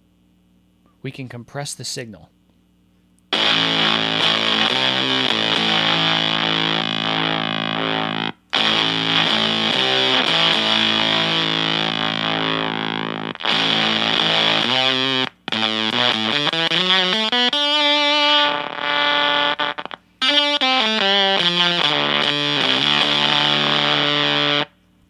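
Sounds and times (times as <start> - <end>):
fuzz electric guitar: 3.3 - 24.8.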